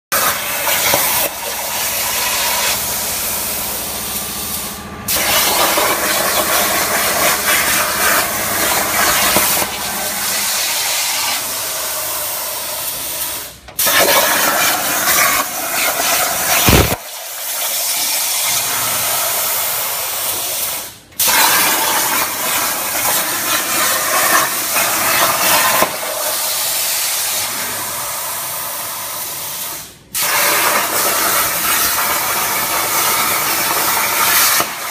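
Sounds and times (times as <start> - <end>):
plasma cutter hissing: 0.2 - 34.9.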